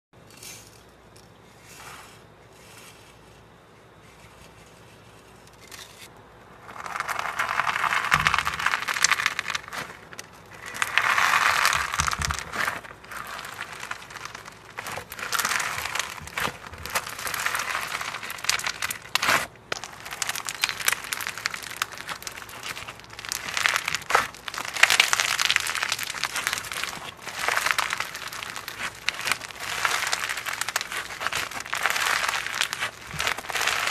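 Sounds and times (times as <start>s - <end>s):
crunchy slime crackling: 2.5s - 33.9s.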